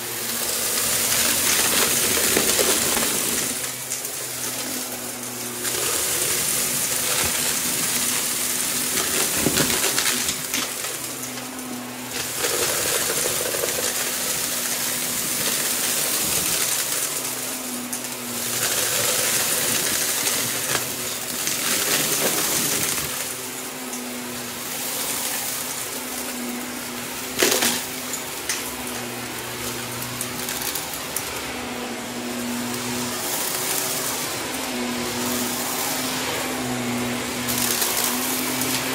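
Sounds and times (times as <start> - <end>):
debris rattling through vacuum: 0.0 - 38.9
vacuum cleaner running: 0.0 - 38.9.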